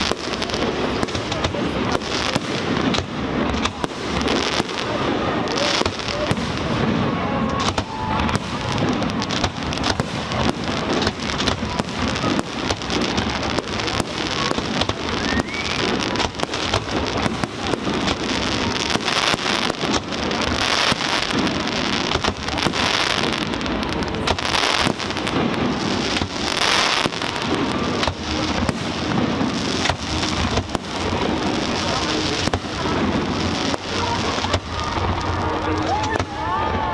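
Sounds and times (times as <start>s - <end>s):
fireworks crackling: 0.0s - 36.9s
loud firework cracks: 0.0s - 36.9s.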